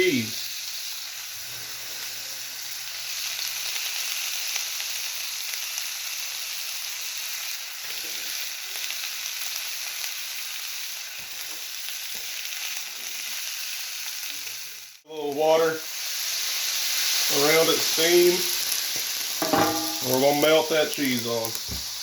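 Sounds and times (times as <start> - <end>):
peppers sizzling on a griddle: 0.0 - 22.0.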